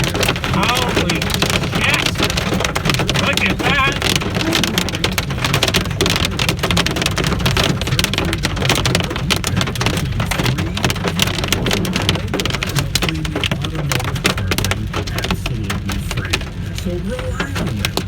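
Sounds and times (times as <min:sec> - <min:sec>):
hail hitting car roof: 0:00.0 - 0:18.0
low rumble of car on road: 0:00.0 - 0:18.0.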